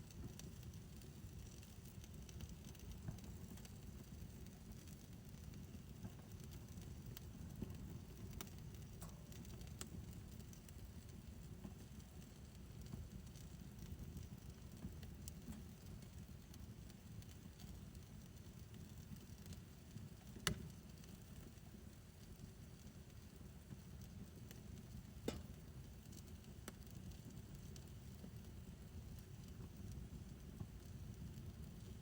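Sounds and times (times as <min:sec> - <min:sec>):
fire crackling and popping: 0:00.0 - 0:32.0
fire low rumble: 0:00.0 - 0:32.0.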